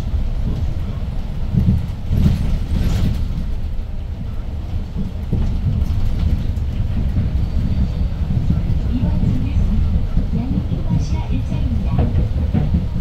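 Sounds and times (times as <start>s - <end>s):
bus engine and road rumble: 0.0s - 13.0s
body knocks and rattles: 1.5s - 3.8s, 4.8s - 13.0s.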